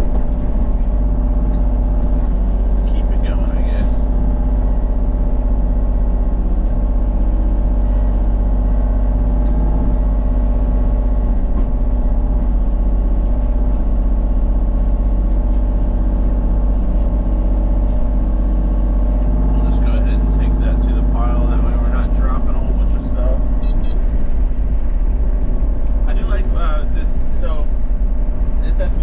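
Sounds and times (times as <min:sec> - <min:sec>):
excavator diesel engine droning: 0:00.0 - 0:29.0.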